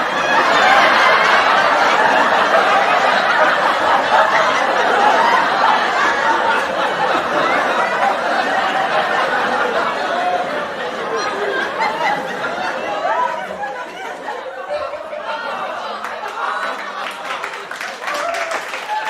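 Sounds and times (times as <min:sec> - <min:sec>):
studio audience laughing: 0:00.0 - 0:19.0.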